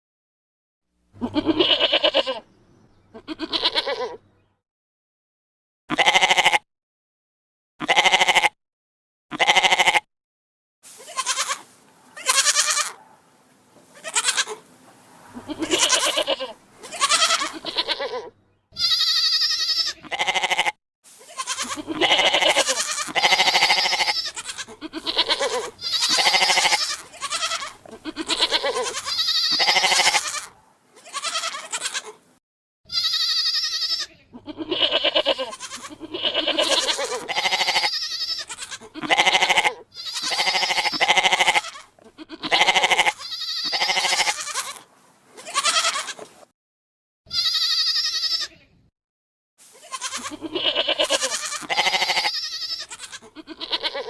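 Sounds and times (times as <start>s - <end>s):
goats bleating: 1.2s - 4.3s, 5.9s - 6.6s, 7.8s - 8.6s, 9.3s - 10.1s, 11.0s - 13.0s, 13.9s - 14.6s, 15.3s - 32.2s, 32.9s - 46.3s, 47.3s - 48.6s, 49.7s - 54.0s.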